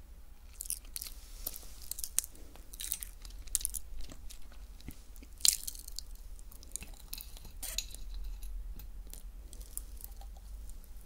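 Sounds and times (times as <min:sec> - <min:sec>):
chewing crisp dried fruit: 0:00.4 - 0:11.0.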